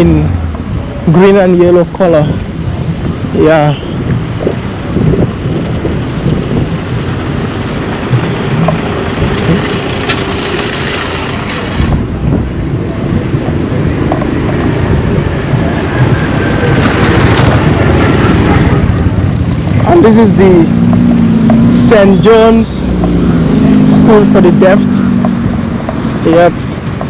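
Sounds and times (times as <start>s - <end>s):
vehicles driving past: 0.0s - 27.0s.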